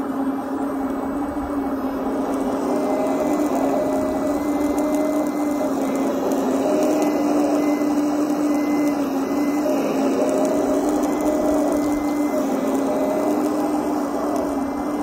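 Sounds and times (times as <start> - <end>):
small electric motor whining: 0.6 - 15.0.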